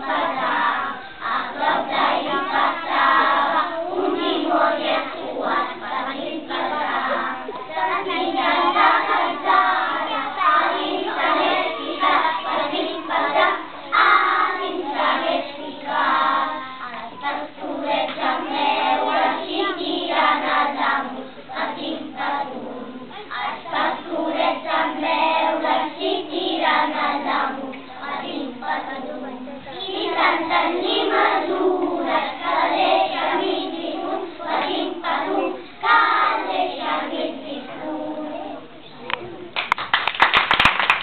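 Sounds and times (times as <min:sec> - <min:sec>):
young children singing: 0:00.0 - 0:39.6.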